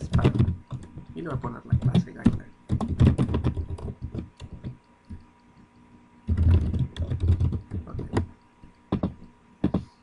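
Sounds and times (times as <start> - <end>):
keyboard typing: 0.0 - 9.9.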